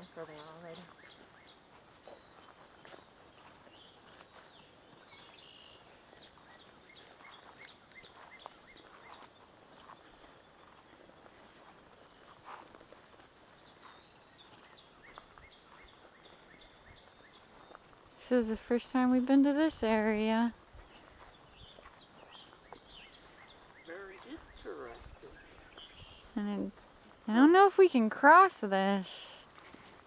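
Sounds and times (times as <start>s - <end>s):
bird chirps: 0.0s - 11.0s, 11.8s - 19.2s, 20.5s - 27.2s
footsteps on grass: 0.0s - 30.0s.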